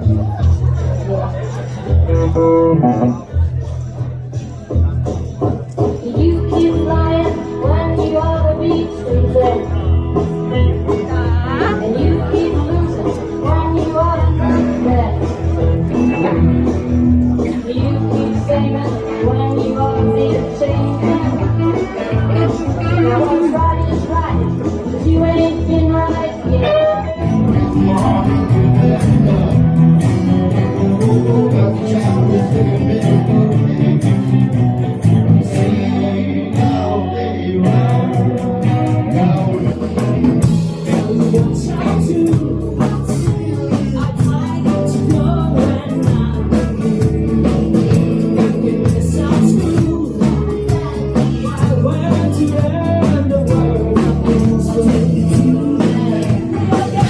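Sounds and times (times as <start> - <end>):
rock band with guitar and singing: 0.0 - 57.0.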